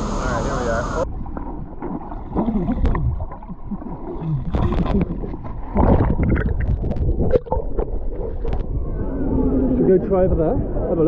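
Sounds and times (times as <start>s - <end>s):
water splashing and gurgling: 0.1s - 9.8s.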